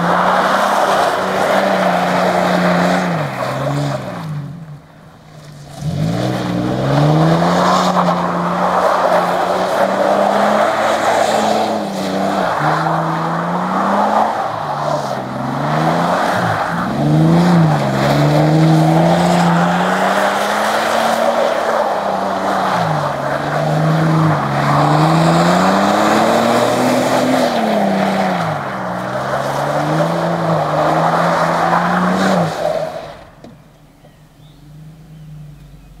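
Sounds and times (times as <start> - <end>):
truck engine revving: 0.0 - 32.8.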